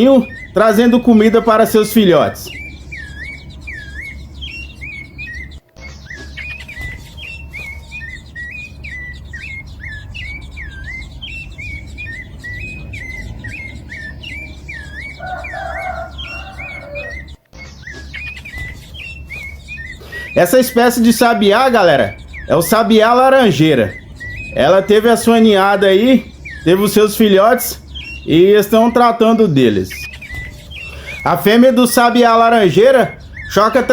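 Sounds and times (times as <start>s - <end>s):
bird chirping: 0.0s - 33.9s.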